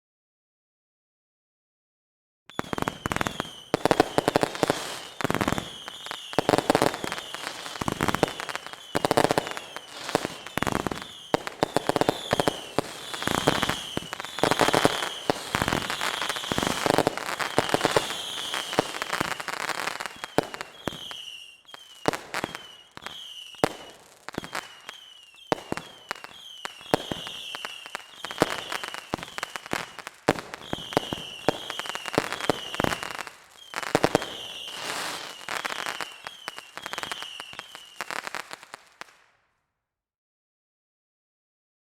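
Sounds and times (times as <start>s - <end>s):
fireworks bangs and crackling: 2.5s - 39.3s
whistling fireworks: 2.5s - 39.4s.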